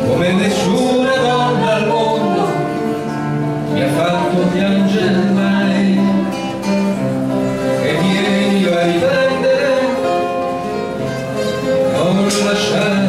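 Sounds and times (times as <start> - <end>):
classical guitars plucked and strummed: 0.0 - 13.0
melody of long held notes: 0.0 - 13.0.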